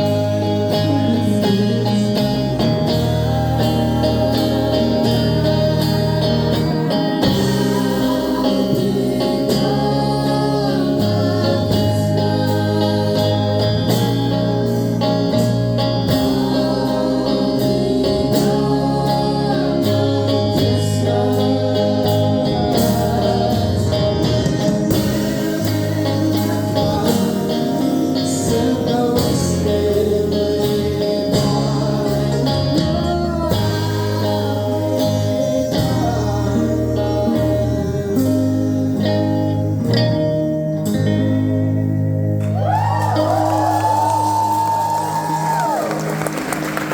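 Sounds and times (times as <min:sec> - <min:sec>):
person singing: 0:00.0 - 0:41.3
live band playing: 0:00.0 - 0:46.9.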